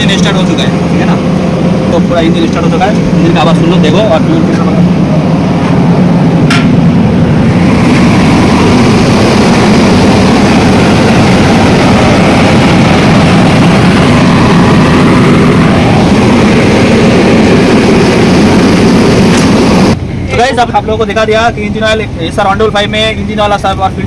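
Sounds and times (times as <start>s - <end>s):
loud diesel engine running: 0.0s - 23.6s.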